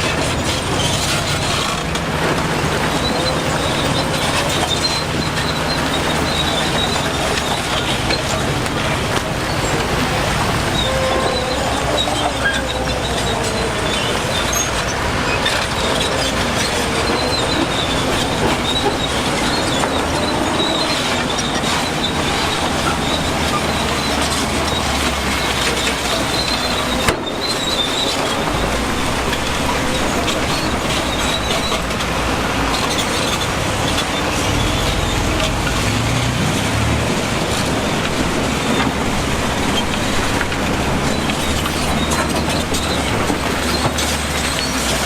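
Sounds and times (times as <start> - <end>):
bulldozer diesel engine: 0.0 - 45.0
metallic squeal of steel tracks: 0.0 - 45.0.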